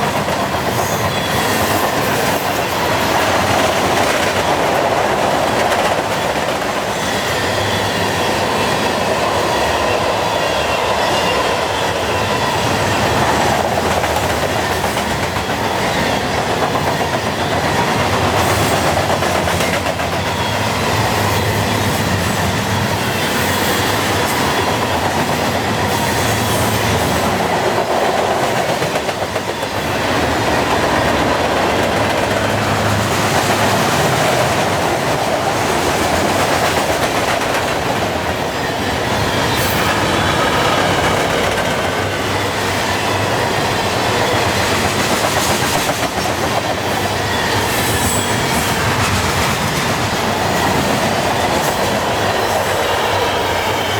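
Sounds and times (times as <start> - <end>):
wheels clacking over rails: 0.0 - 10.1, 11.1 - 53.9
freight train rumbling past: 0.0 - 53.9.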